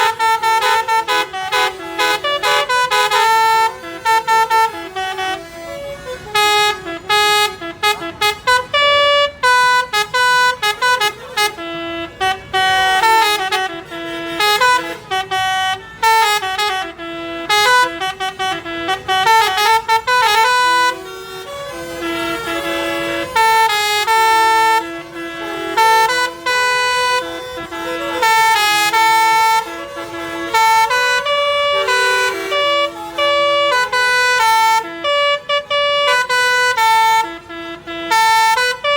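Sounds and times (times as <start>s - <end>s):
musical bus horn playing a tune: 0.0s - 38.9s.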